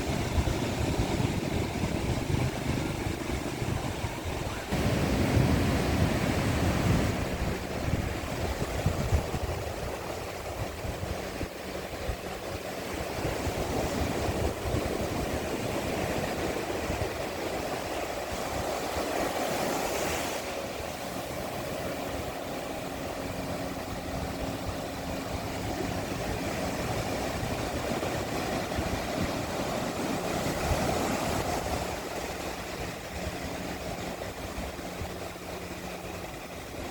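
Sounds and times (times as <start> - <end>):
faint low engine hum: 0.0 - 36.9
sea lapping on a beach: 0.0 - 36.9.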